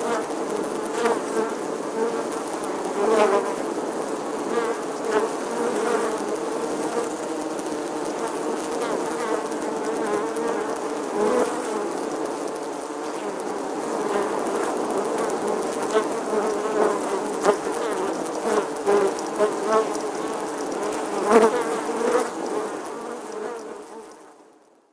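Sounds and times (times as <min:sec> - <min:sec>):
bees flying past: 0:00.0 - 0:24.3.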